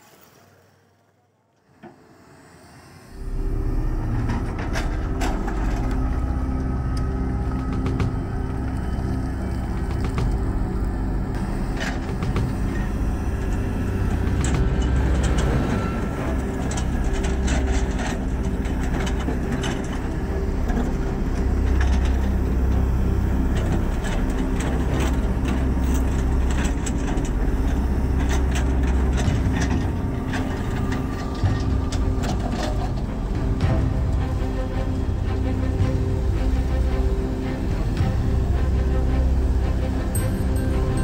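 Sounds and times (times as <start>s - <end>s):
excavator diesel engine: 0.0s - 41.0s.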